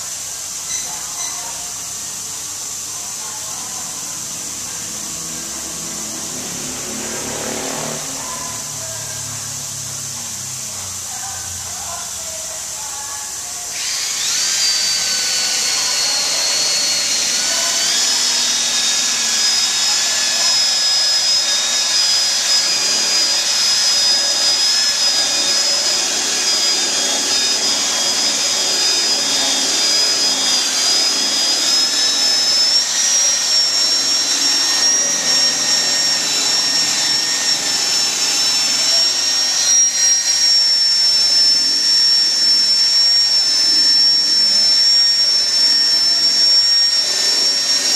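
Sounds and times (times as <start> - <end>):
cordless drill motor whine: 0.0 - 11.1, 13.7 - 47.9.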